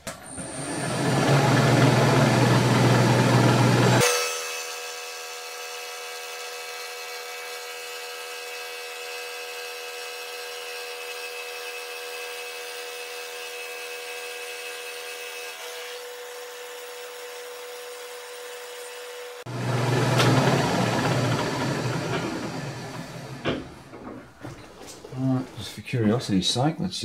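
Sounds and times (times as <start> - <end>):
milling machine cutting metal: 0.0 - 13.3, 15.6 - 25.6.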